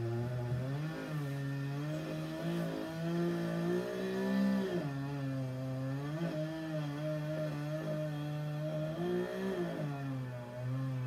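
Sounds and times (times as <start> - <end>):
chainsaw cutting: 0.0 - 11.0.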